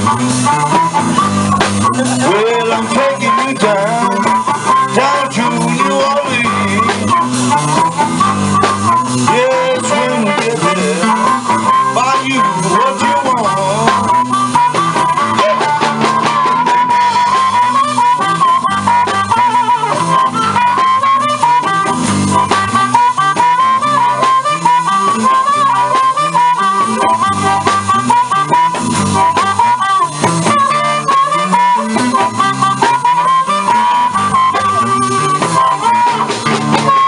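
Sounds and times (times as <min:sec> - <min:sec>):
blues band playing: 0:00.0 - 0:37.0
harmonica solo: 0:00.0 - 0:37.0.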